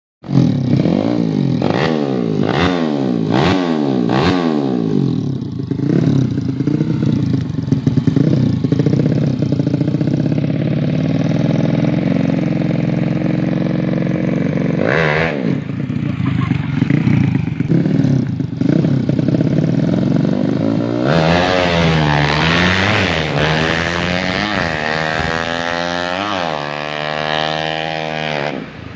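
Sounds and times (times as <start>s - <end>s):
motorcycle engine revving: 0.2s - 28.9s.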